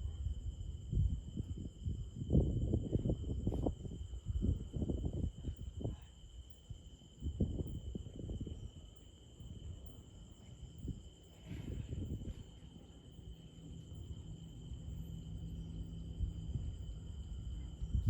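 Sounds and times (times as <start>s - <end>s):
wind buffeting microphone: 0.0s - 10.0s, 10.6s - 12.8s, 14.0s - 18.0s
faint low hum: 0.0s - 18.0s
insects trilling: 0.1s - 18.0s.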